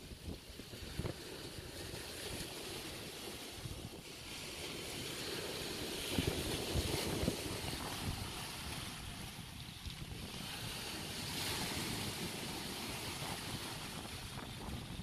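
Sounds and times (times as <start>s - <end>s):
wind buffeting microphone: 0.0s - 15.0s
surf breaking on rocky shore: 0.3s - 15.0s.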